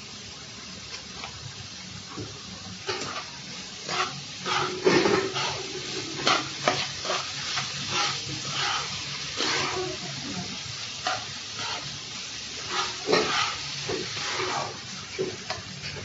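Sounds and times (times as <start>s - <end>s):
vegetables sizzling: 0.0s - 16.0s
spatula scraping in a pan: 2.8s - 16.0s.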